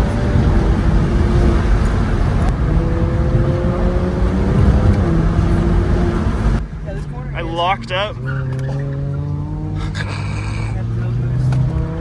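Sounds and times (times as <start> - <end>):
car engine accelerating: 0.0 - 12.0
road and wind noise: 0.0 - 12.0.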